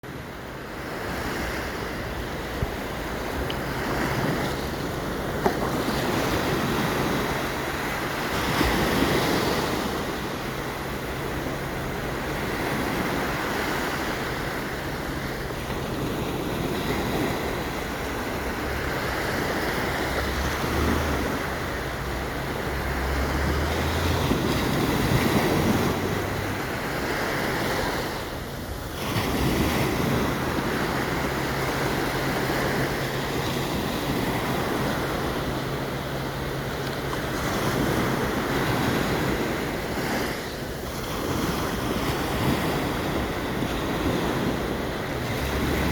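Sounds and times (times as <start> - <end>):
waves breaking on beach: 0.0 - 45.9
wind buffeting microphone: 0.0 - 45.9.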